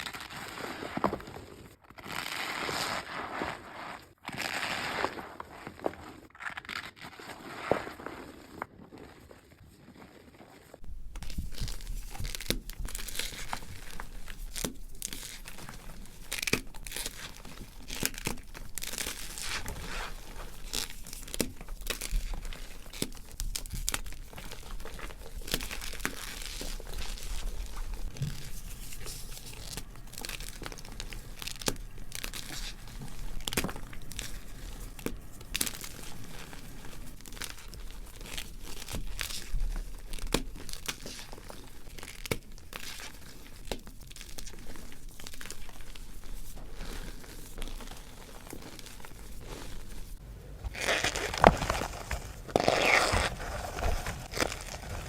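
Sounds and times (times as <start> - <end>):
chalk being crushed and crumbled: 10.8 - 55.0.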